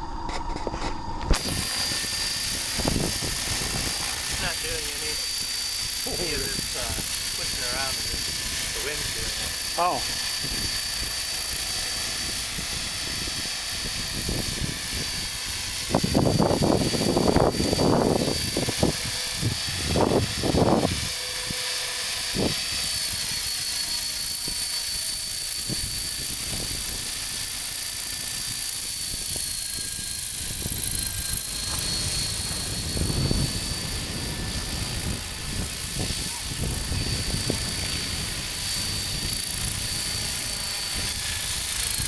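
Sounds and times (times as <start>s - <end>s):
rc helicopter motor whine: 0.0s - 42.0s.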